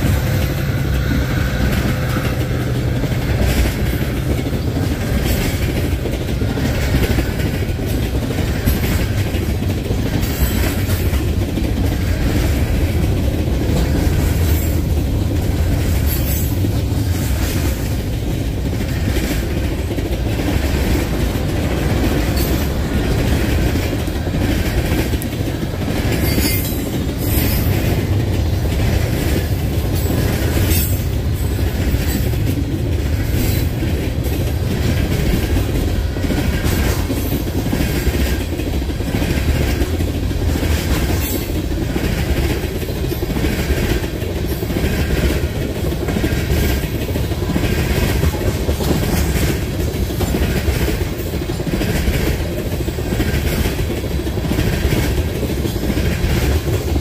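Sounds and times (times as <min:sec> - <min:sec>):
freight train rumbling on rails: 0:00.0 - 0:57.0
wheels clacking over rail joints: 0:00.0 - 0:57.0.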